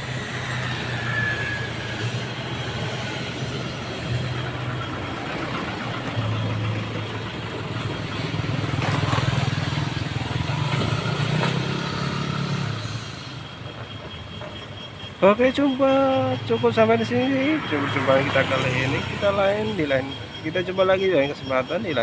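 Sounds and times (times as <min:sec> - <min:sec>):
truck engine drone: 0:00.0 - 0:22.0.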